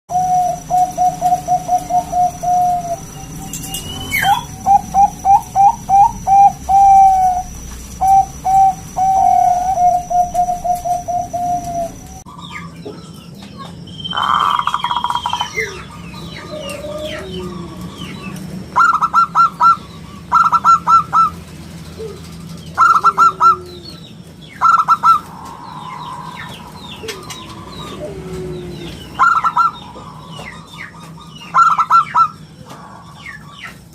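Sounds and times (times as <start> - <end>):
dove cooing: 0.1 - 12.2, 14.2 - 33.2
birds chirping: 0.1 - 33.9.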